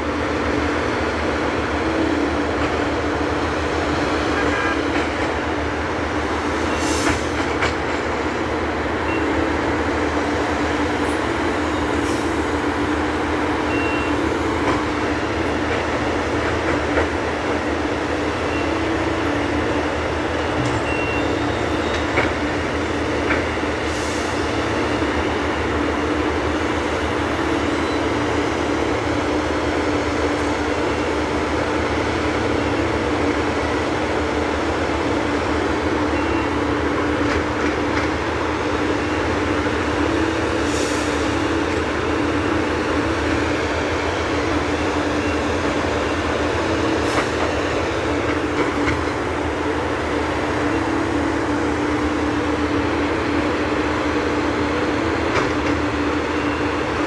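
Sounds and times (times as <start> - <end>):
crane engine humming: 0.0 - 57.0.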